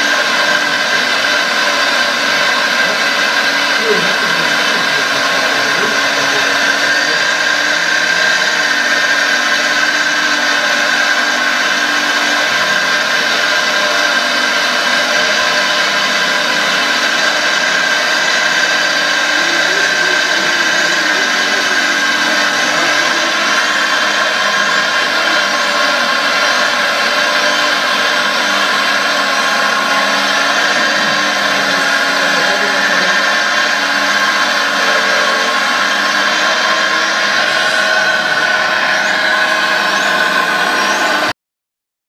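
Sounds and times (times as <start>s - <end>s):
hydraulic pump whine: 0.0s - 41.4s.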